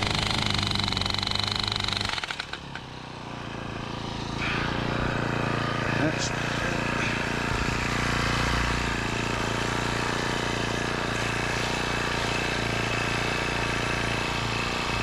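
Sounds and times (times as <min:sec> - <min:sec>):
gas-powered post driver running: 0:00.0 - 0:15.0.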